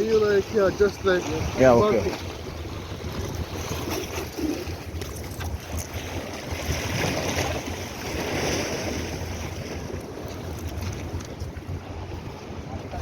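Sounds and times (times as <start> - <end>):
sea water: 0.0 - 13.0
wind on microphone: 0.0 - 13.0.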